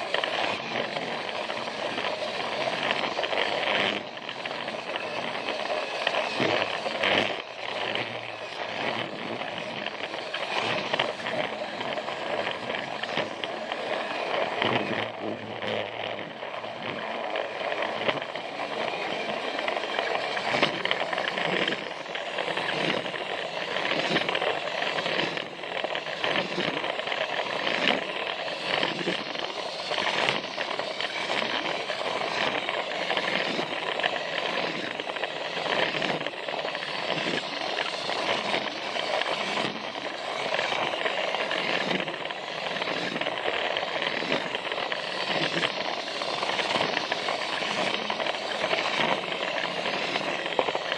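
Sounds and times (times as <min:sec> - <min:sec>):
wheels clicking on track joints: 0:00.0 - 0:16.2, 0:16.9 - 0:50.9
toy train motor whirring: 0:00.0 - 0:50.9.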